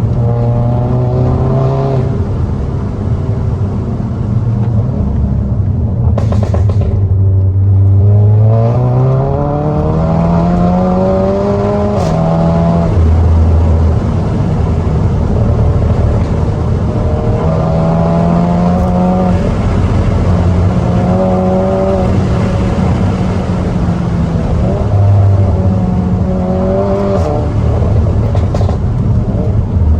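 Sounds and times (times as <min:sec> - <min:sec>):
car engine accelerating hard: 0:00.0 - 0:29.9
exhaust crack at gear change: 0:04.6 - 0:29.9.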